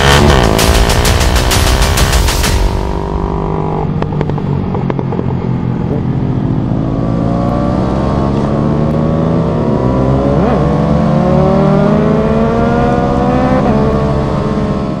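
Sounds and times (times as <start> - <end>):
motorcycle engines accelerating hard: 0.0 - 15.0.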